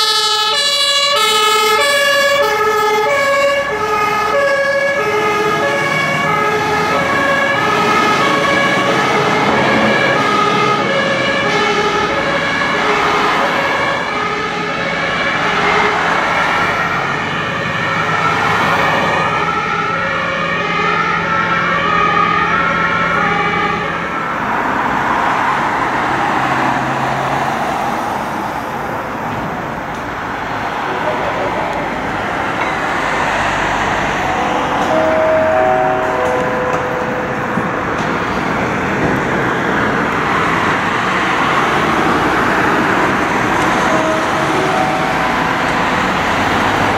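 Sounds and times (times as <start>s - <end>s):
road traffic: 0.0s - 46.9s
two-tone sirens: 0.0s - 46.9s.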